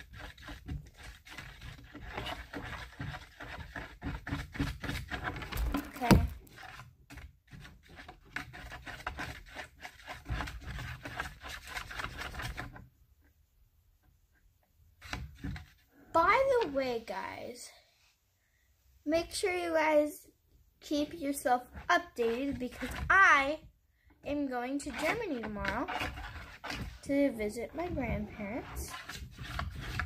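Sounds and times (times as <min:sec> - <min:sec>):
slime stirred in plastic bucket: 0:00.0 - 0:12.9, 0:14.9 - 0:17.4, 0:20.8 - 0:30.0.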